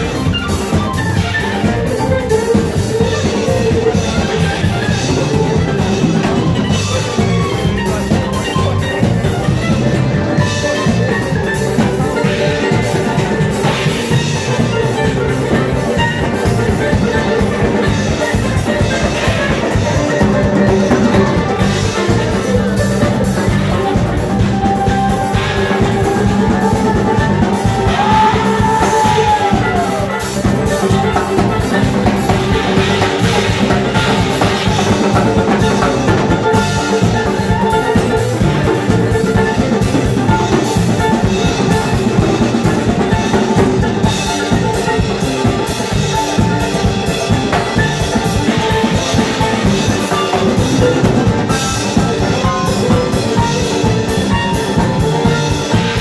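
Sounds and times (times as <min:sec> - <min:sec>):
live band playing instrumental: 0:00.0 - 0:56.0.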